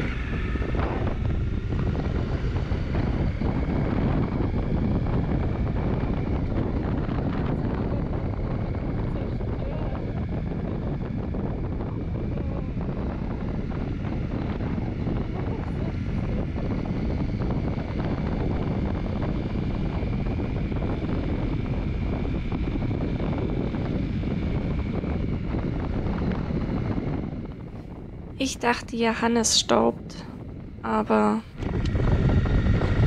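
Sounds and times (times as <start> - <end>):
motorcycle engine running: 0.0 - 33.0
wind noise on microphone: 0.0 - 33.0.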